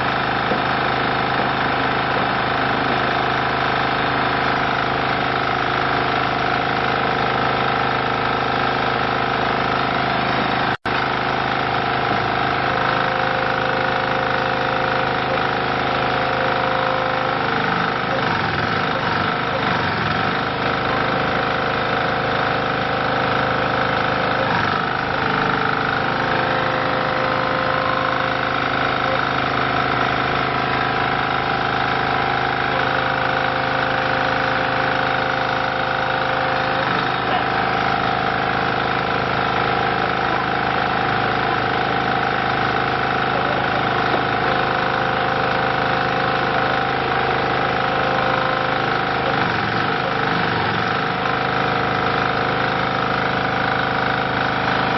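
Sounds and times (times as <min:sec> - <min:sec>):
diesel engine running: 0:00.0 - 0:54.9
higher machine tone: 0:00.0 - 0:54.9.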